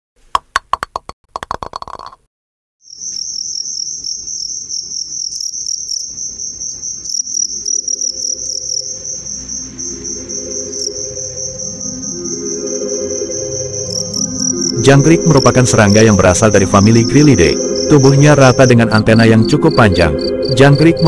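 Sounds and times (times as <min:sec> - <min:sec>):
cricket chirping: 0:02.9 - 0:21.0.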